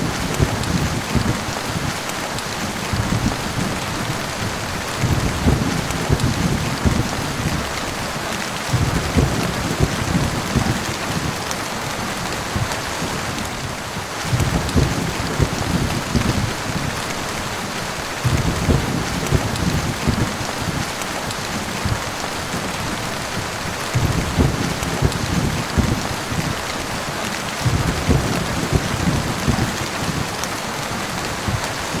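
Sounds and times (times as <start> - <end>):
heavy rain: 0.0 - 32.0
thunder rumbling: 0.0 - 32.0.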